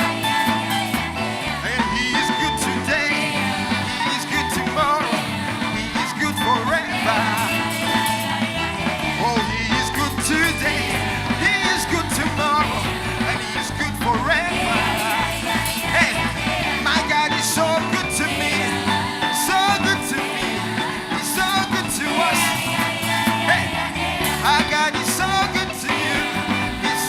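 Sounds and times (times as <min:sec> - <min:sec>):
bass line: 0:00.0 - 0:27.0
live band playing: 0:00.0 - 0:27.0
person singing: 0:01.4 - 0:27.0.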